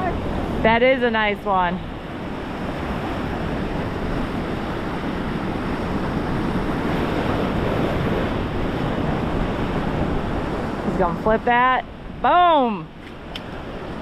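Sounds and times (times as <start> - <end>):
ocean surf: 0.0 - 14.0
wind on the microphone: 0.0 - 14.0.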